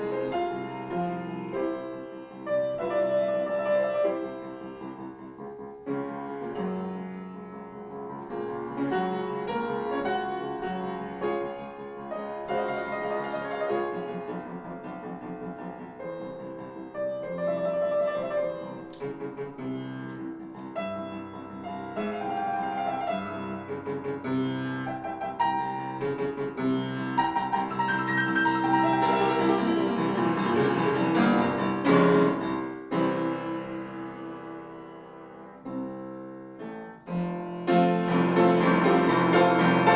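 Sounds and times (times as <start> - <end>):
solo classical piano: 0.0 - 39.9.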